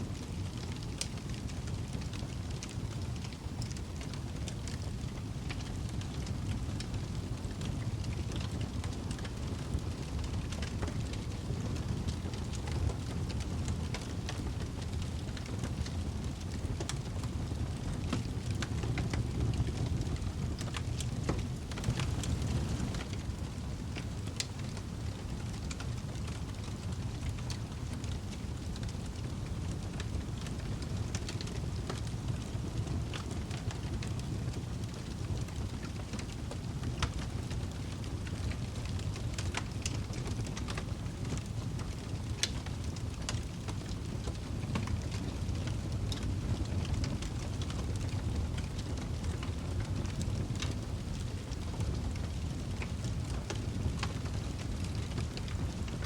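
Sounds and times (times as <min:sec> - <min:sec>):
fire low rumble: 0:00.1 - 0:56.0
logs crackling and popping: 0:00.1 - 0:56.0
low roar of flames: 0:00.1 - 0:56.0.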